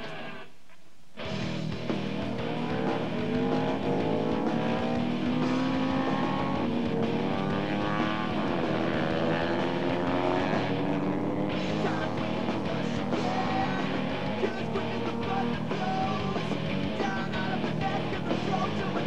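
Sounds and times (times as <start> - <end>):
motorcycle engines revving high: 1.7 - 19.0.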